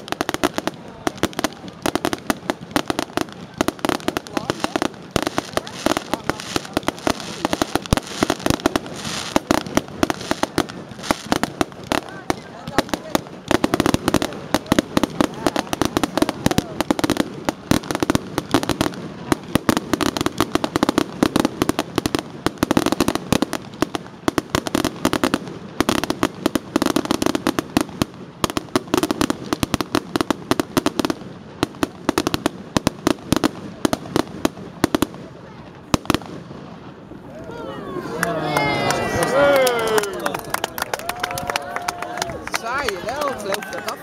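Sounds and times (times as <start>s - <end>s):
fireworks bangs and crackles: 0.0s - 37.3s, 38.2s - 44.0s.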